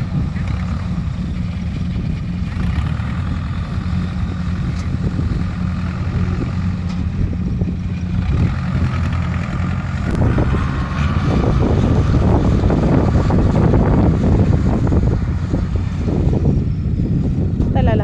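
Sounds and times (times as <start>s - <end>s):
farm machinery engine humming: 0.0s - 18.0s
wind buffeting microphone: 0.0s - 18.0s.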